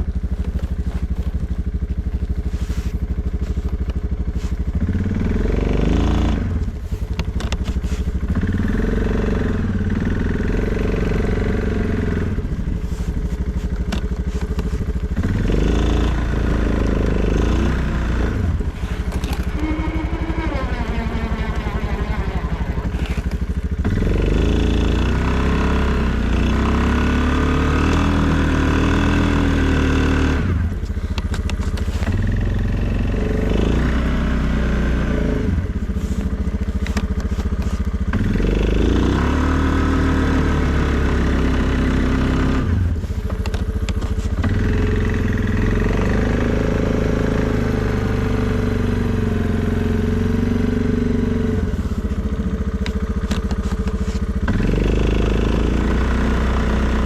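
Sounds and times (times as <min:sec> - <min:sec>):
atv engine under load: 0:00.0 - 0:57.0.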